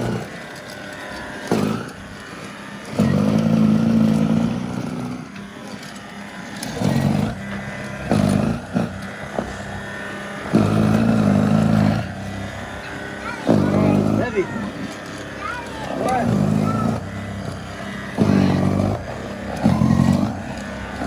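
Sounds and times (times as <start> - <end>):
snowblower running through snow: 0.0 - 21.0.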